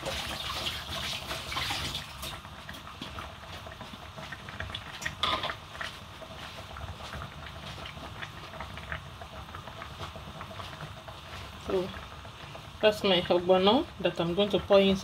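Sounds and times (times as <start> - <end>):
soup bubbling: 0.0 - 15.0.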